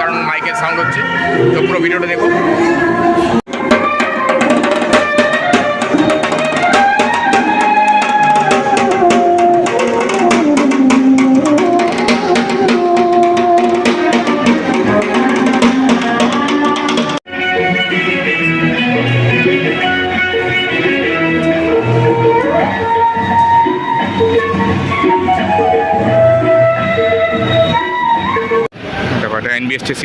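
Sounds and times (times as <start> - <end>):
music with drum beat and sliding melody: 1.4 - 28.7.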